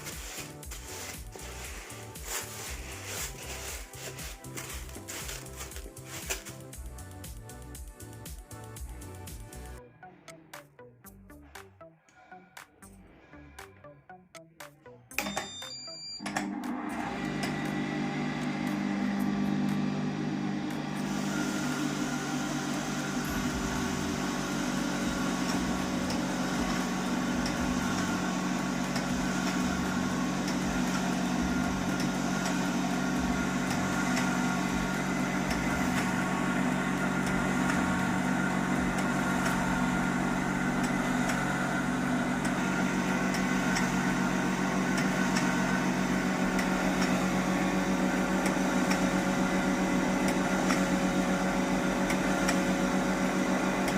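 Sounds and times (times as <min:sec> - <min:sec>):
electric flour mill grinding grain: 0:00.0 - 0:09.8, 0:16.2 - 0:53.9.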